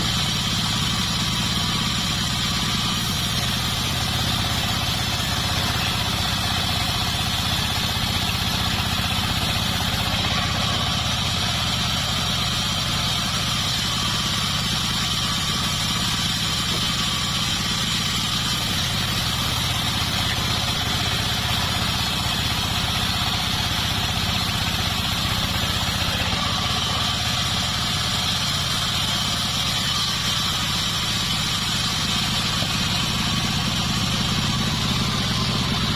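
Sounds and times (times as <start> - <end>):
band sawmill running: 0.0 - 35.9.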